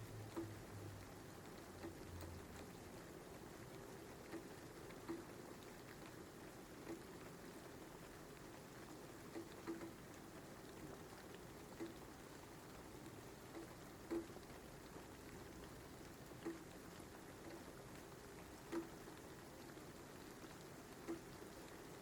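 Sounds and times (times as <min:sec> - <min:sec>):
faint steady rain: 0:00.0 - 0:22.0
raindrops tapping: 0:00.0 - 0:22.0.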